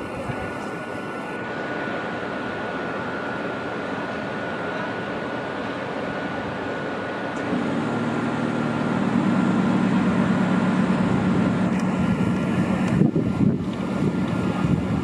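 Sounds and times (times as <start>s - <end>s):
high whine: 0.0s - 15.0s
locomotive low hum: 0.0s - 15.0s.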